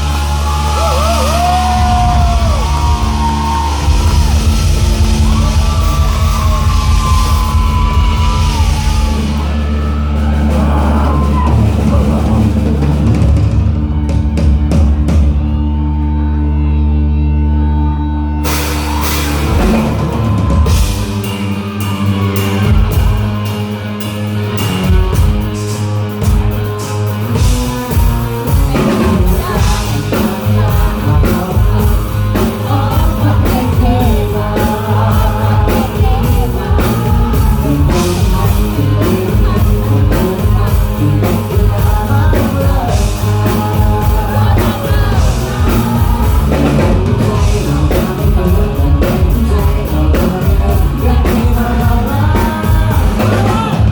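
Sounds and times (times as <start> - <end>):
drum kit: 0.0 - 15.7, 18.4 - 53.9
live rock band playing: 0.0 - 53.9
person singing: 0.0 - 53.9.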